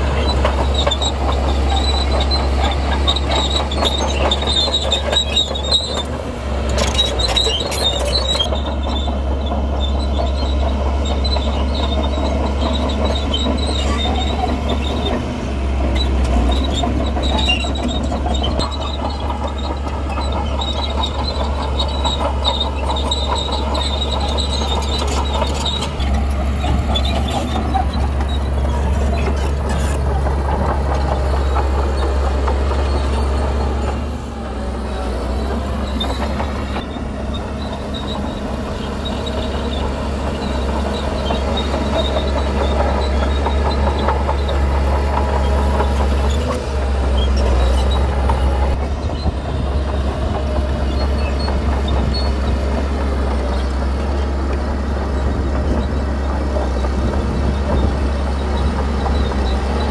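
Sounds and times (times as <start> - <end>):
diesel engine under load: 0.0 - 59.9
steel tracks squealing and clanking: 0.0 - 59.9.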